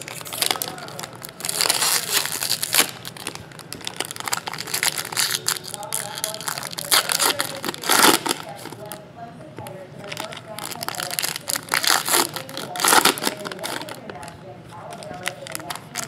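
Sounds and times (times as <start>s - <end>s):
foil wrapper crinkling and tearing: 0.0s - 9.0s, 10.0s - 16.0s.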